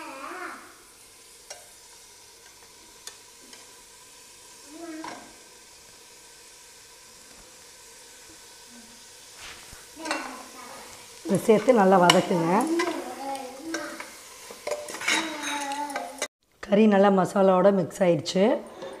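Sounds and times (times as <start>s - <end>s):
meat sizzling in a pot: 0.0s - 16.3s.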